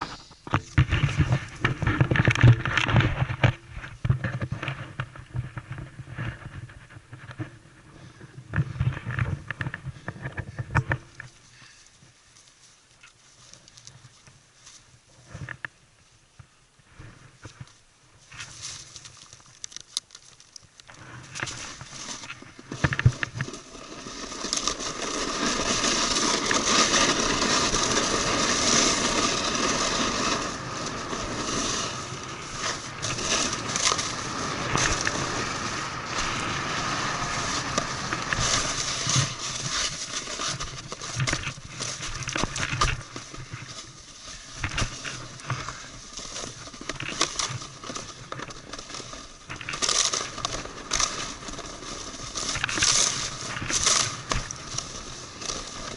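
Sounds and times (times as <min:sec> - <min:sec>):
snowboard scraping over snow: 0:00.0 - 0:11.5, 0:21.0 - 0:55.9.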